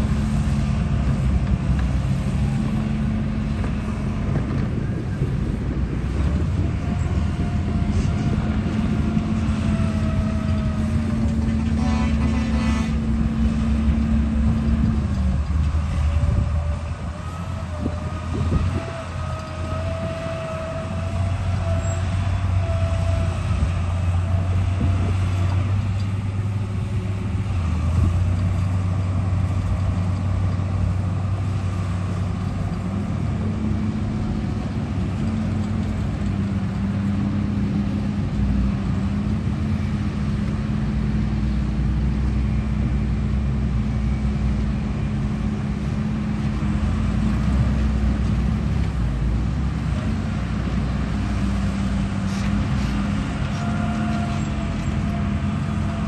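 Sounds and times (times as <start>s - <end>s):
vehicle engine humming: 0.0s - 56.0s.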